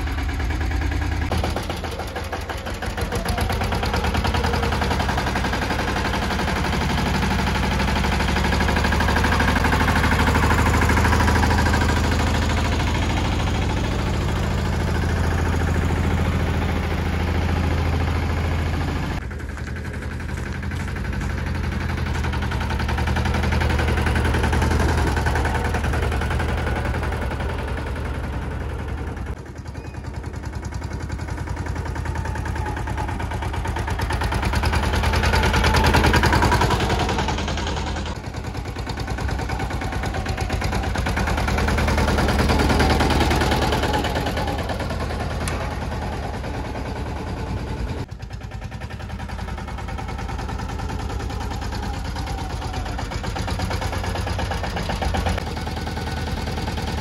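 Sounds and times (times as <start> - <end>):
tractor diesel engine chugging: 0.0 - 57.0.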